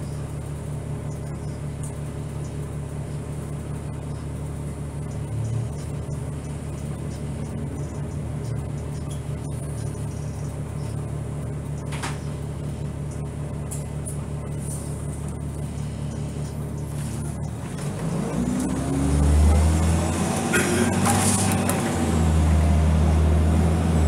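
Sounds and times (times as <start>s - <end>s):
bus engine idling: 0.0s - 24.0s.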